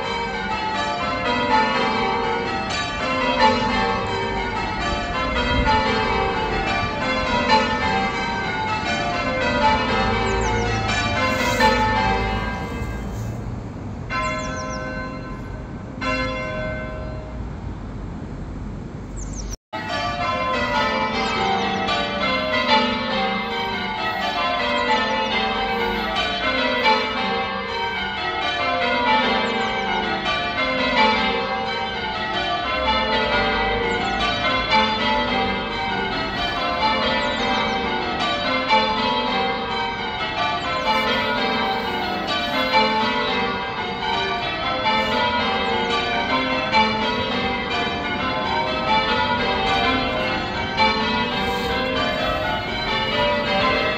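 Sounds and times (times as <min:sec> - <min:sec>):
church bells ringing in sequence: 0:00.0 - 0:17.7, 0:19.8 - 0:53.9.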